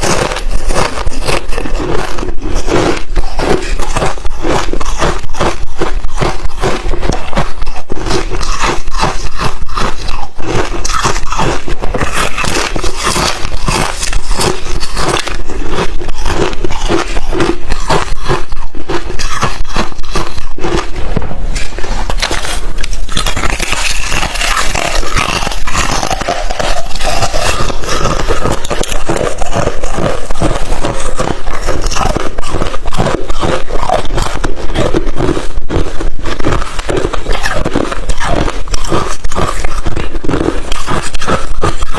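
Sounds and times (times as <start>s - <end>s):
ice chips crunching being chewed: 0.0s - 41.9s.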